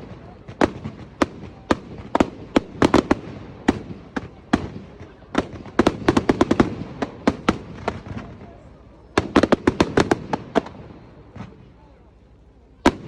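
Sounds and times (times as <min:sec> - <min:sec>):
fireworks bangs and cracks: 0:00.0 - 0:11.8, 0:12.8 - 0:13.0.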